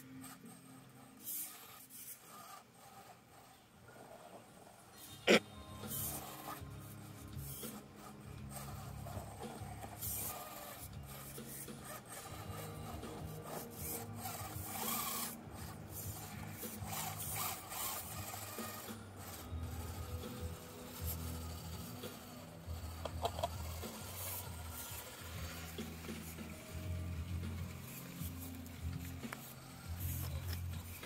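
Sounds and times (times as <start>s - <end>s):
small motor and gears whirring: 0.0s - 31.0s
background music: 5.0s - 31.0s.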